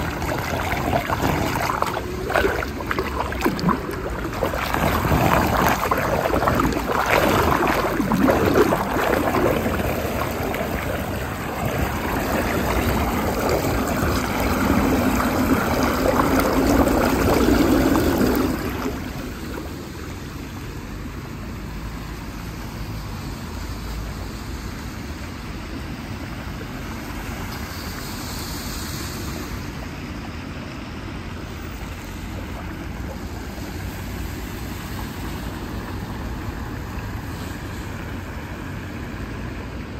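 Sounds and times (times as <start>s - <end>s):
car tyres swishing through water: 0.0s - 21.2s, 21.8s - 39.9s
water gushing down storm drain: 0.0s - 39.9s.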